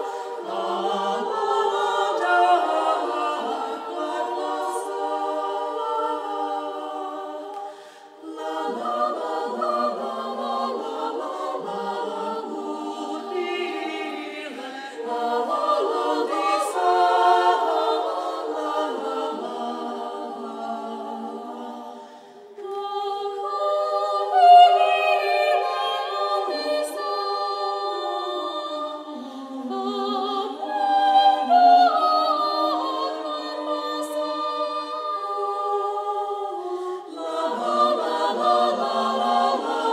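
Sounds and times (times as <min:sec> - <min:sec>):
women's choir singing a cappella: 0:00.0 - 0:39.9.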